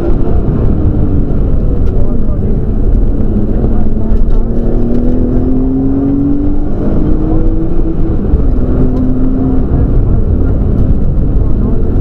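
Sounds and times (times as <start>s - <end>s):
car engine accelerating hard: 0.0s - 12.0s
road noise: 0.0s - 12.0s.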